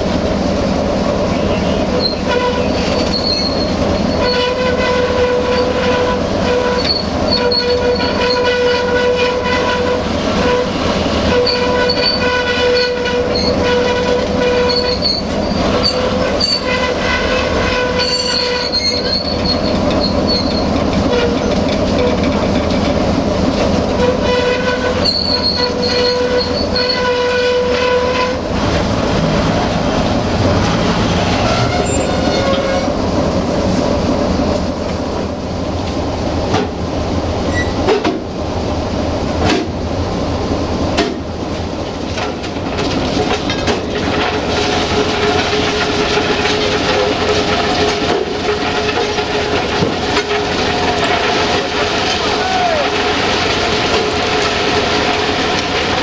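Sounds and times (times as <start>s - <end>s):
train rumbling along track: 0.0s - 56.0s.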